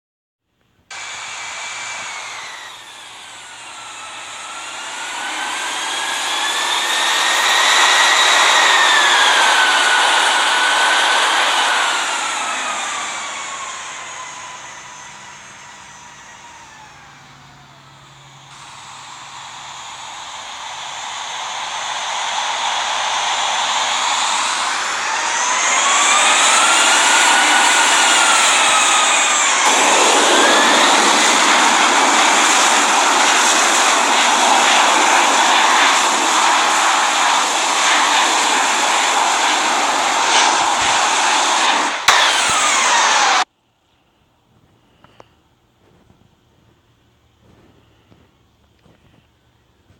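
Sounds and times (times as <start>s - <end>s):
jet engines whining on approach: 0.9s - 43.5s.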